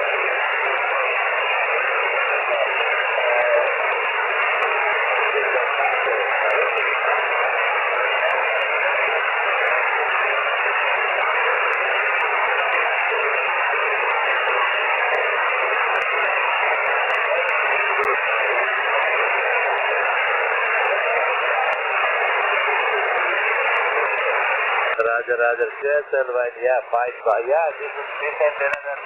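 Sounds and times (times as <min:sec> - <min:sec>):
radio band noise hiss: 0:00.0 - 0:29.0.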